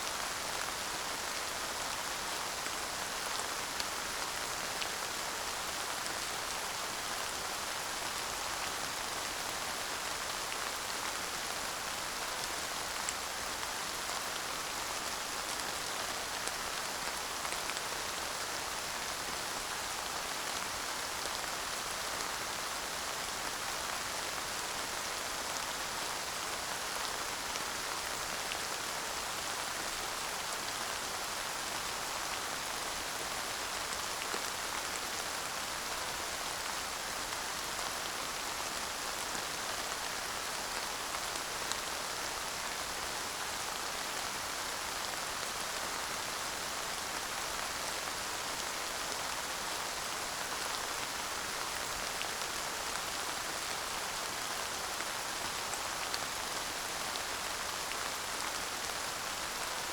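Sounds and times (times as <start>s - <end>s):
light rain: 0.0s - 59.9s.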